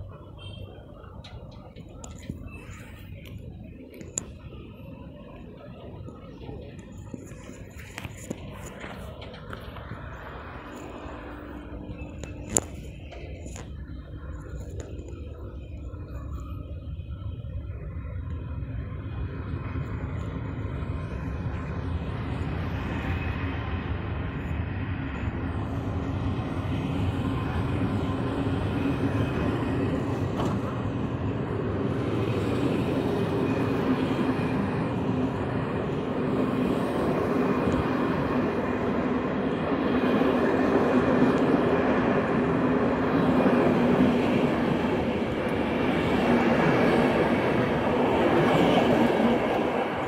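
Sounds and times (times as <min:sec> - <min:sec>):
steady hum: 0:00.0 - 0:50.0
train coaches rolling on rails: 0:00.0 - 0:50.0.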